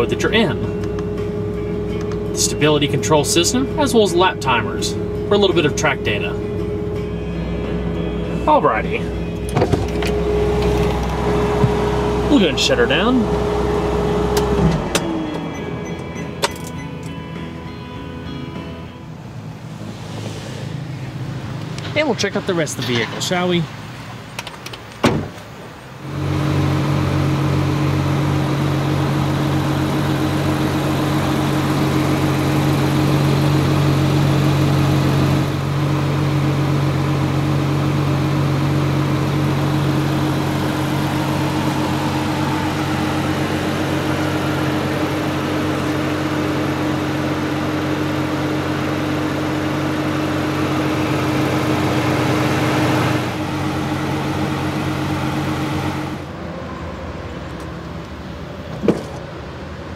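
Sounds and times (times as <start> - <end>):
parked car mechanical hum: 0.0 - 59.9.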